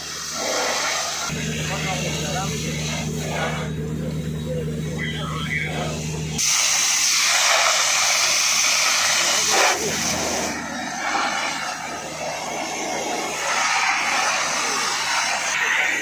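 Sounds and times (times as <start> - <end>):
fire hose spraying water: 0.0 - 3.7, 5.6 - 16.0.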